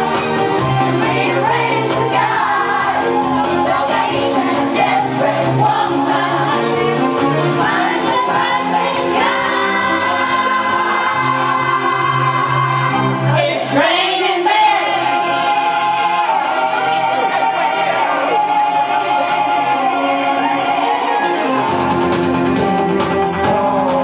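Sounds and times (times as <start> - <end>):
backing track music: 0.0 - 24.0
person singing karaoke: 0.9 - 24.0.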